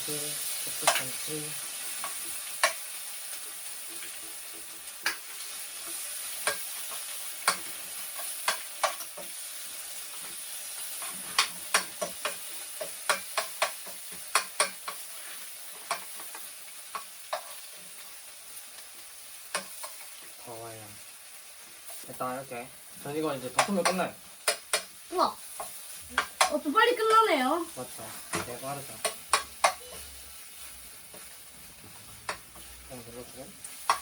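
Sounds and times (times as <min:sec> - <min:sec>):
steady high hiss: 0:00.0 - 0:34.0.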